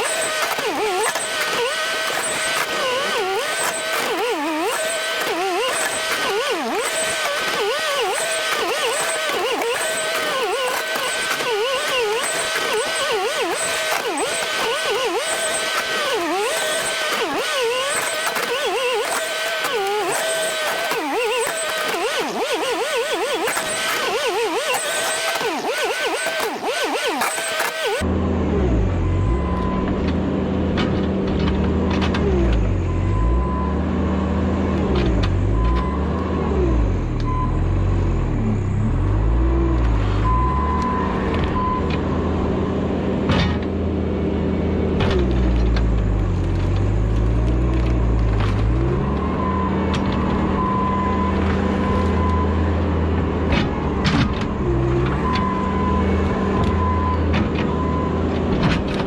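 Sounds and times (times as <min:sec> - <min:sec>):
loader diesel engine working hard: 0:00.0 - 0:59.0.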